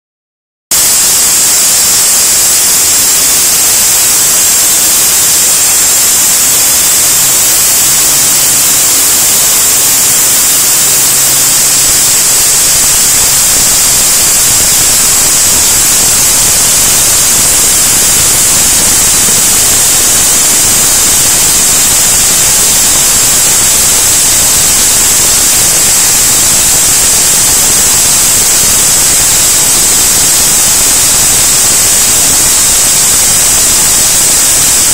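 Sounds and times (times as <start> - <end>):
band saw cutting metal: 0.7 - 34.9.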